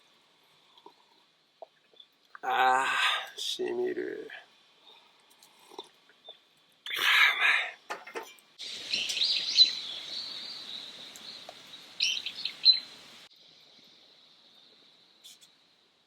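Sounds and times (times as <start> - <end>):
wild birds chirping: 0.0 - 15.8.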